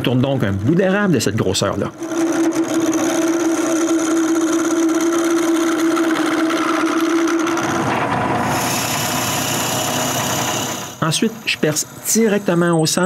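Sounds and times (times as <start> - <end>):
wood lathe humming: 0.0 - 13.0
tool scraping spinning wood: 0.4 - 12.7.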